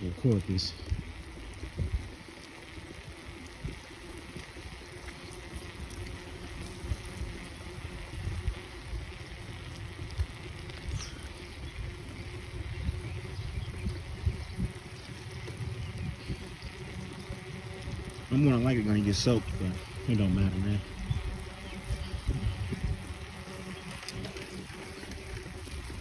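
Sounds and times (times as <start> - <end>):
hiss of rain and wet tyres: 0.0 - 26.0
wind gusting on microphone: 0.0 - 26.0.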